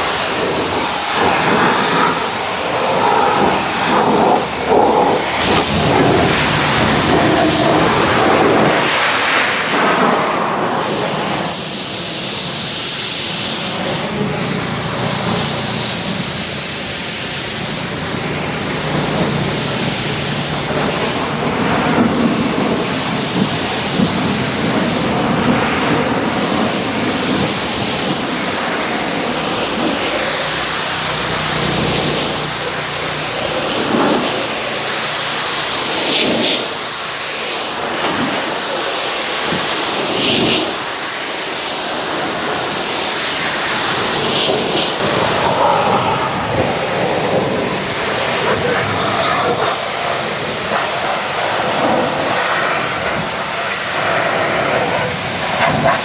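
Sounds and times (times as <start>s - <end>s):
pressure washer spraying: 0.0s - 56.0s.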